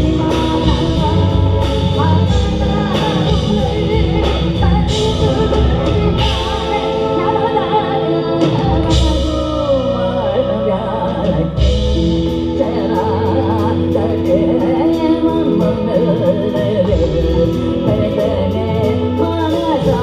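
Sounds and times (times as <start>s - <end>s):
bass guitar: 0.0s - 20.0s
drums: 0.0s - 20.0s
electric guitar: 0.0s - 20.0s.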